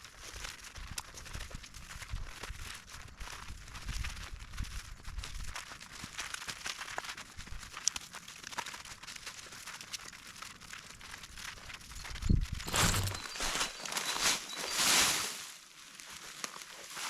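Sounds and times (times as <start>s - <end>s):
dry crackling and rustling: 0.0s - 17.0s.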